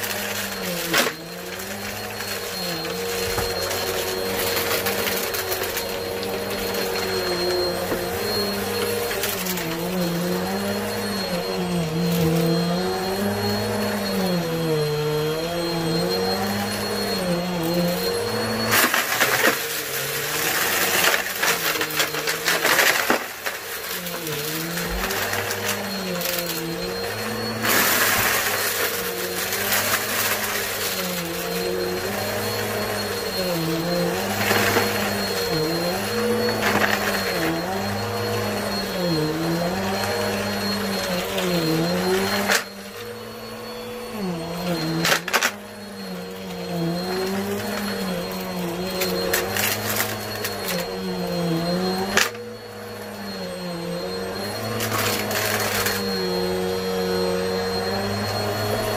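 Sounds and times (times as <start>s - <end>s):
debris rattling up vacuum: 0.0s - 14.1s, 15.9s - 53.2s, 53.9s - 58.9s
vacuum cleaner motor hum: 0.0s - 58.9s.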